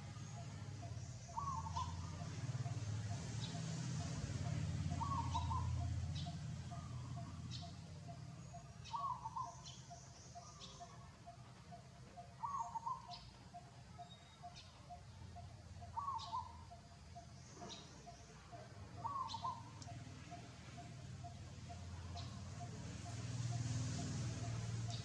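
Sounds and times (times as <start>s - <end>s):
bird warbling call: 0.3s - 25.0s.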